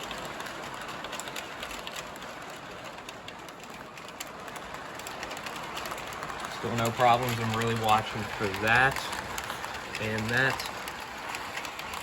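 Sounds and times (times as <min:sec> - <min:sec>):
model train wheels rattling on track: 0:00.0 - 0:12.0.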